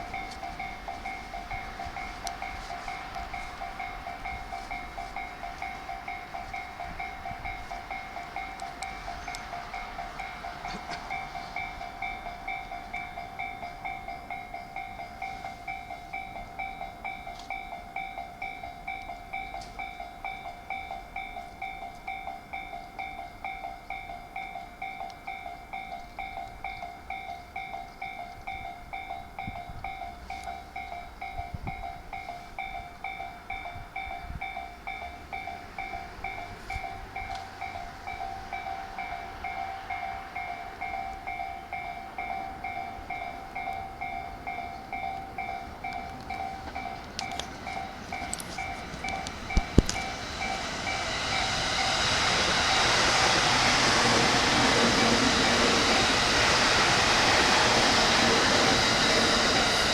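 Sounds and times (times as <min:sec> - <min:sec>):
level crossing warning bell: 0:00.0 - 0:59.9.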